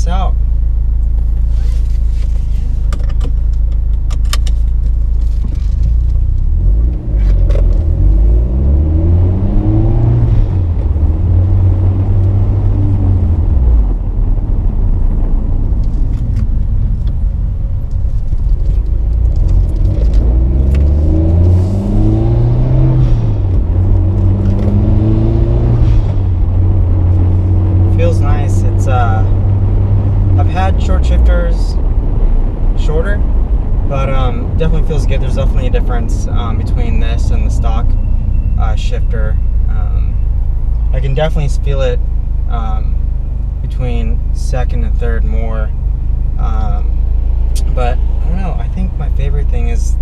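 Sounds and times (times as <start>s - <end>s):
car engine accelerating: 1.0s - 50.0s.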